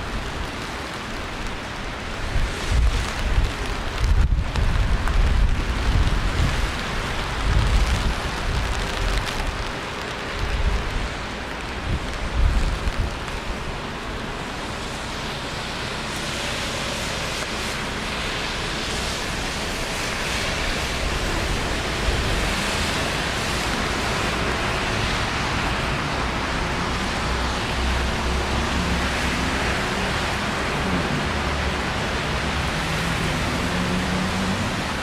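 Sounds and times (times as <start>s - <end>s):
city traffic rumble: 0.0s - 35.0s
steady rain hiss: 0.0s - 35.0s.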